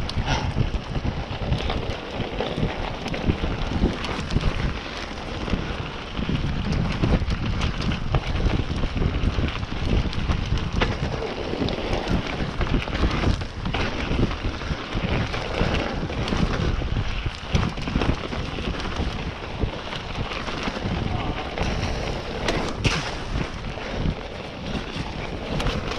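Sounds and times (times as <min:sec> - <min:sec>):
bike knocking and rattling: 0:00.0 - 0:25.9
tyre noise: 0:00.0 - 0:25.9
wind rushing on microphone: 0:00.0 - 0:25.9.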